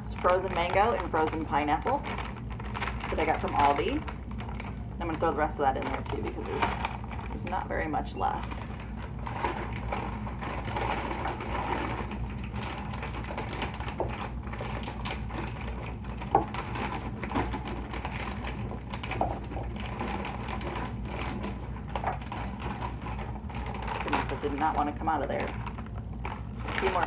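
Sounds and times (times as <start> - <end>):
frozen fruit rattling into blender: 0.0 - 27.0
plastic bag crinkling: 0.0 - 27.0.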